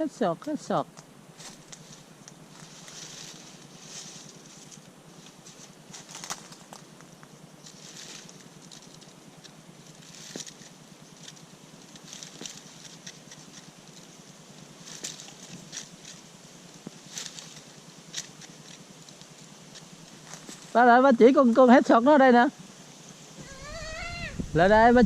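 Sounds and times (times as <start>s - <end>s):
rustling in dry leaves: 0.0s - 25.0s.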